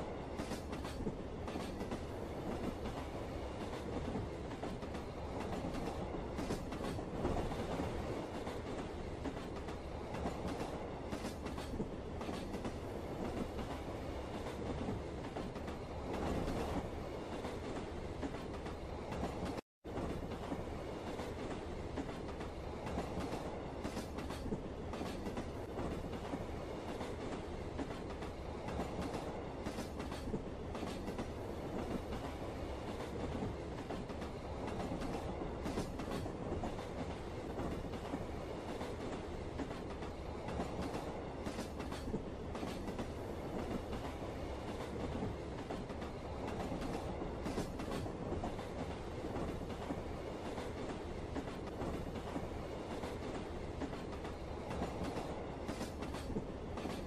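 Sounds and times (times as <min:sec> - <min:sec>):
train running on rails: 0:00.0 - 0:57.0.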